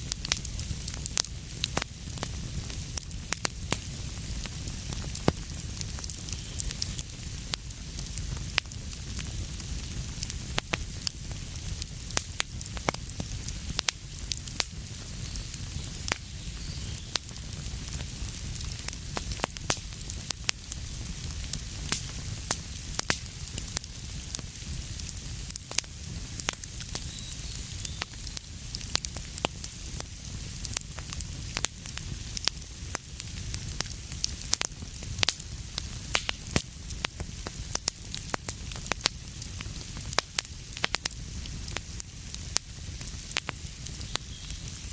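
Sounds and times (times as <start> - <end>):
fire crackles and pops: 0.0 - 44.9
wood fire rumbling and hissing: 0.0 - 44.9.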